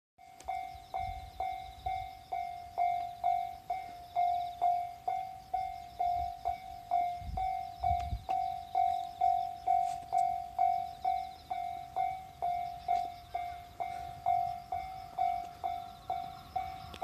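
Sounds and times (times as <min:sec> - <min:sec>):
level crossing warning bell: 0:00.2 - 0:17.0.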